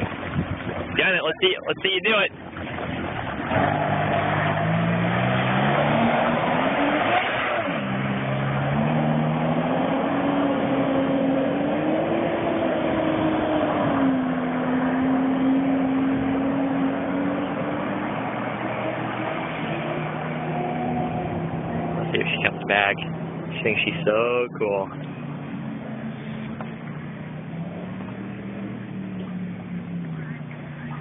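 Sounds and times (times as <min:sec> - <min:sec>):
jet ski engine revving: 0:00.0 - 0:31.0.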